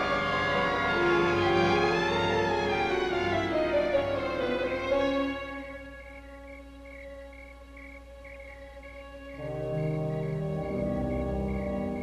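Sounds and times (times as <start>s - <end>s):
orchestral string music: 0.0s - 12.0s.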